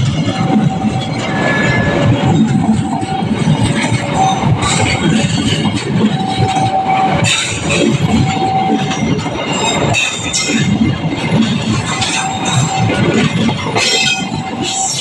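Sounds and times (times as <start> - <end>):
train rolling past: 0.0 - 15.0
wheels clacking over rail joints: 0.0 - 15.0.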